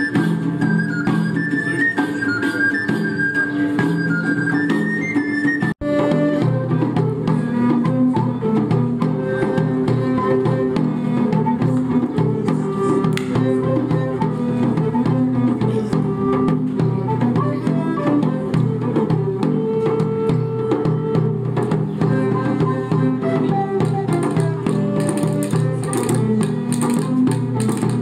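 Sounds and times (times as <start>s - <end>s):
bowed string melody: 0.0s - 28.0s
light percussion strokes: 0.0s - 28.0s.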